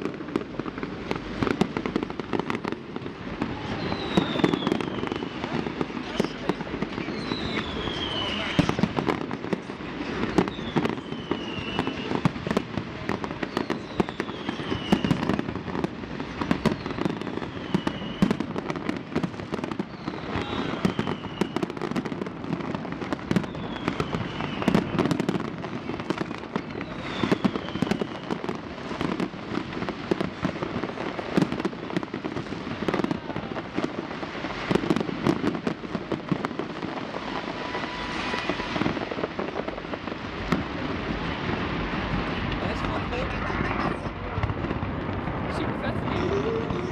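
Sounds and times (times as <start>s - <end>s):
fireworks bangs and crackles: 0.0s - 46.9s
falling firework whistle: 1.2s - 30.3s, 30.9s - 40.6s.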